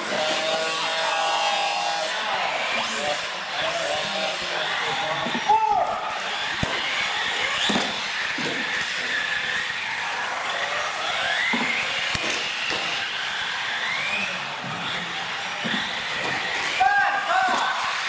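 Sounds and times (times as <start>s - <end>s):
electric motors of model trucks whining: 0.0s - 18.0s.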